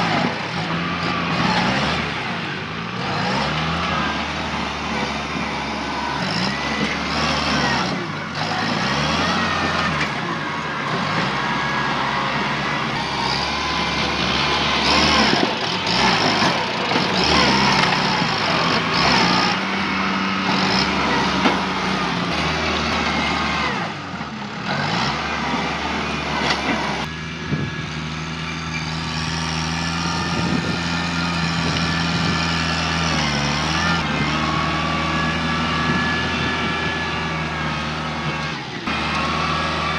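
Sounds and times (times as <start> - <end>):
tractor engine working hard: 0.0 - 39.9.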